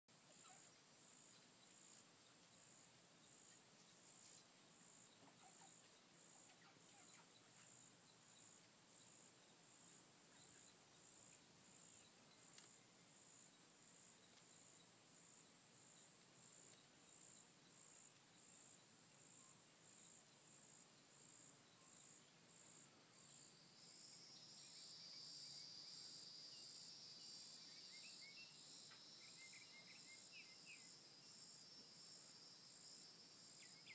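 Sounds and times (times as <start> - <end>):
insects buzzing: 0.1 - 33.9
insects pulsing call: 0.3 - 33.9.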